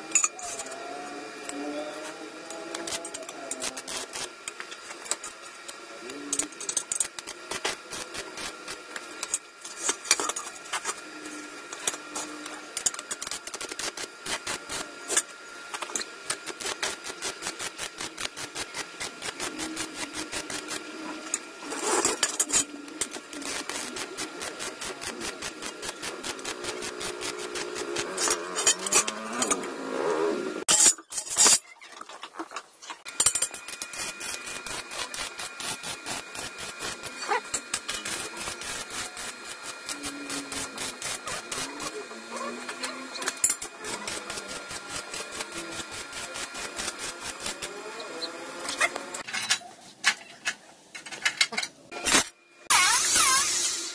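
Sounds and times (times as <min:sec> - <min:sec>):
welding arc crackling: 0:00.0 - 0:29.7, 0:33.0 - 0:49.2, 0:52.0 - 0:53.9.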